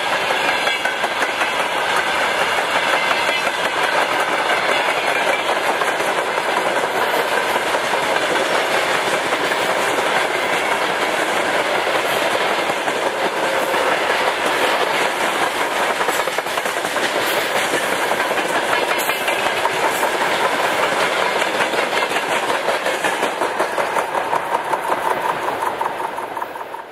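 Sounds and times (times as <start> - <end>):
train wheels clattering over rail joints: 0.0 - 26.9.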